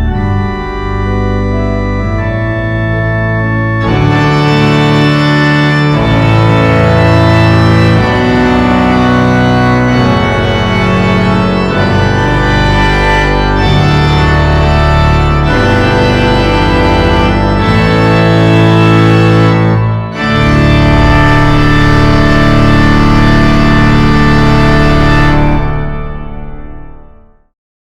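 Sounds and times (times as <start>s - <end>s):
church organ chords: 0.0s - 27.3s.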